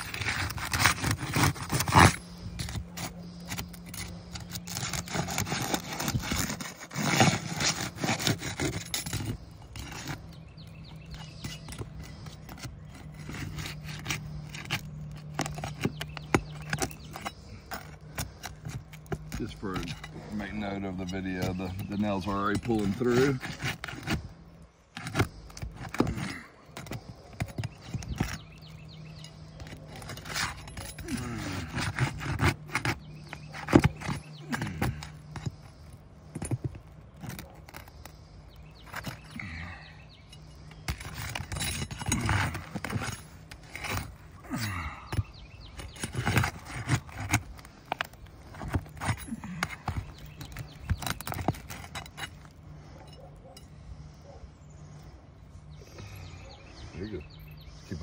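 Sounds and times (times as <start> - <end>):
pry bar scraping shingles: 0.0 - 58.0
steady low hum: 0.0 - 58.0.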